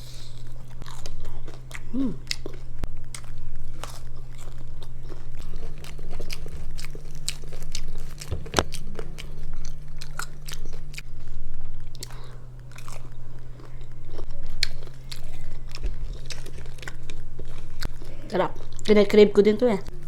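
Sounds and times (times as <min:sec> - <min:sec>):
person chewing crunchy food: 0:00.0 - 0:19.2
steady low hum: 0:00.0 - 0:20.0.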